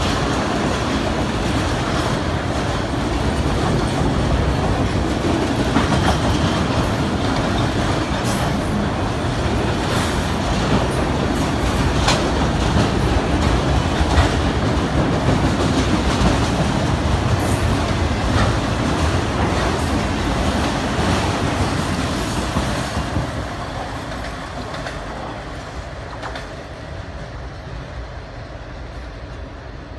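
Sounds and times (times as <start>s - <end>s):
freight train wheels rumbling on rails: 0.0s - 29.9s.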